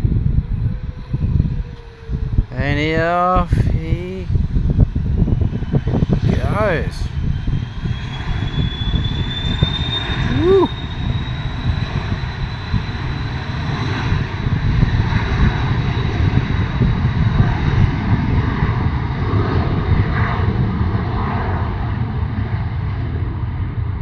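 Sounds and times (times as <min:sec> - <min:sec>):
jet engines at takeoff: 0:00.0 - 0:02.5, 0:07.1 - 0:24.0.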